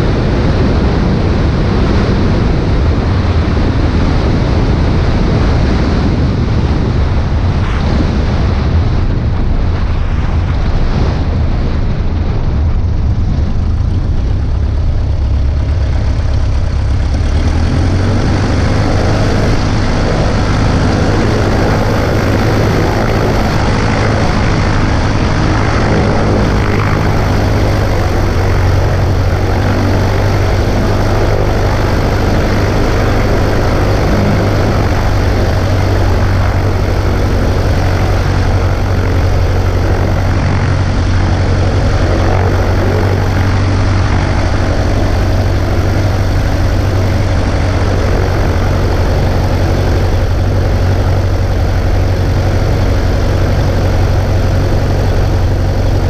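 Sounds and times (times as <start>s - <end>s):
light aircraft engine and propeller: 0.0s - 56.0s
wind rush over microphone: 0.0s - 56.0s.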